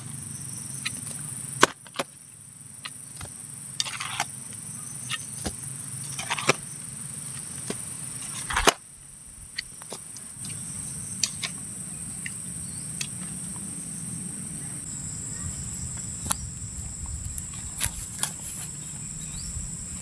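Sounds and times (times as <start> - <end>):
night insects chorus: 0.0 - 20.0.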